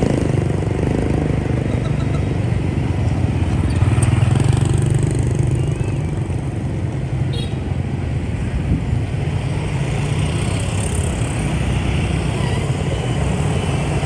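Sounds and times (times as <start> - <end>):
motorbike engines rumbling: 0.0 - 14.0.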